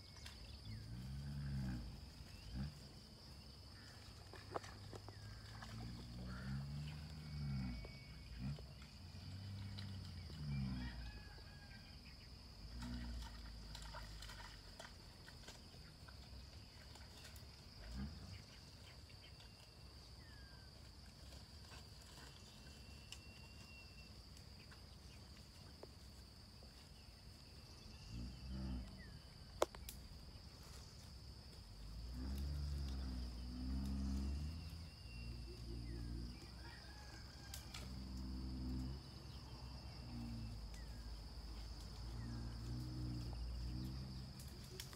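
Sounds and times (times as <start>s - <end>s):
high insect drone: 0.0s - 44.9s.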